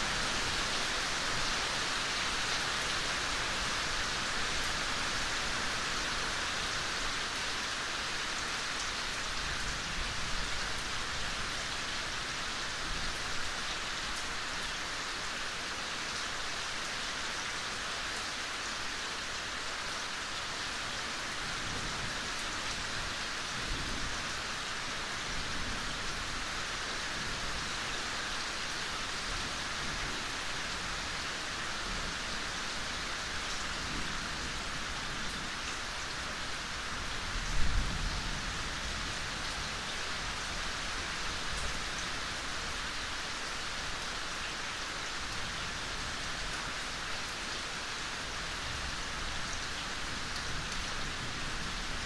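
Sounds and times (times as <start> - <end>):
gentle rain falling: 0.0 - 52.0.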